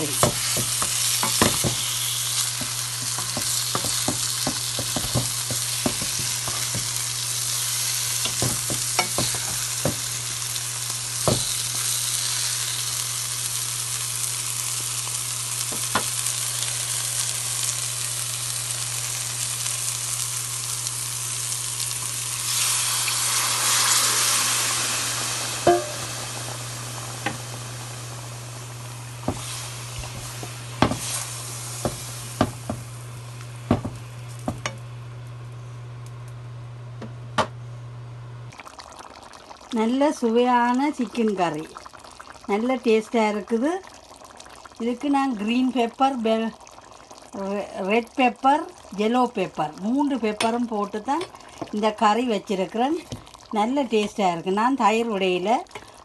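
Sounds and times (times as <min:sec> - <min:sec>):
curry sizzling in a pan: 0:00.0 - 0:34.8, 0:38.5 - 0:56.0.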